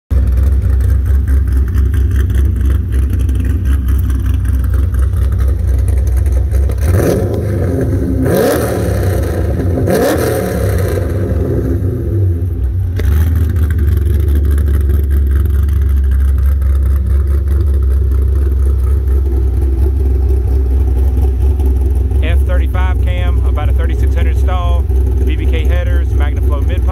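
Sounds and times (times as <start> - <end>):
car engine idling and revving: 0.1 - 26.9.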